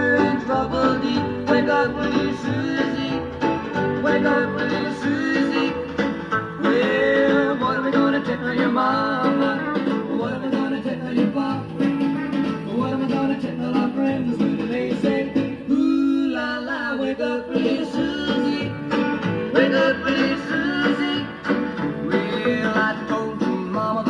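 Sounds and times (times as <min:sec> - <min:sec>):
guitar: 0:00.0 - 0:24.0
person singing: 0:00.0 - 0:24.0
pop song on a record player: 0:00.0 - 0:24.0.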